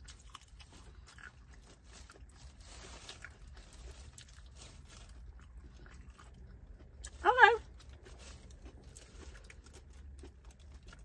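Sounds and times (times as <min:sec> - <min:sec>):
chewing crisp vegetable: 0:00.0 - 0:11.0.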